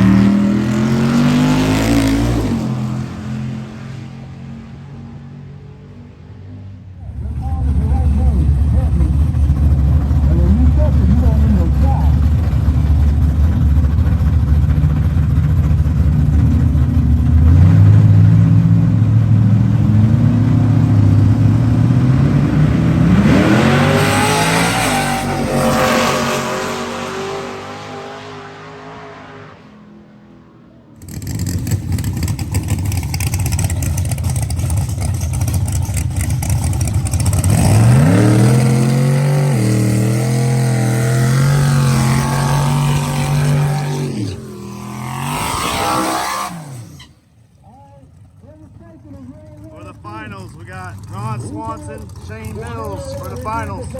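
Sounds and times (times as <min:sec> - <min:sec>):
drag racing engines revving: 0:00.0 - 0:53.9.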